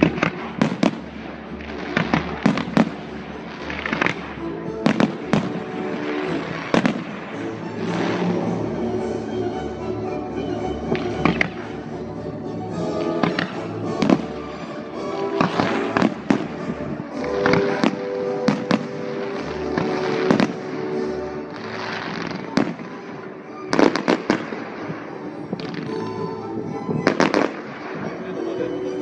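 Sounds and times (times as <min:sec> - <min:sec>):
fireworks bangs and crackles: 0:00.0 - 0:09.0, 0:10.8 - 0:11.9, 0:12.8 - 0:28.4
music: 0:00.0 - 0:29.0.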